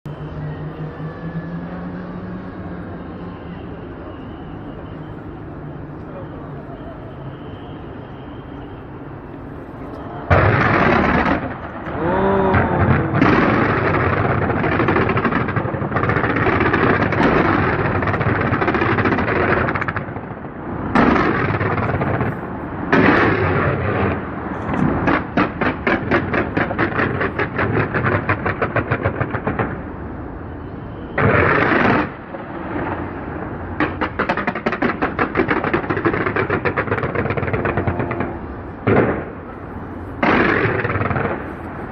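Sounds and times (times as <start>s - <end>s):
fireworks bursts: 3.0s - 41.9s
fireworks crackling: 3.4s - 41.9s.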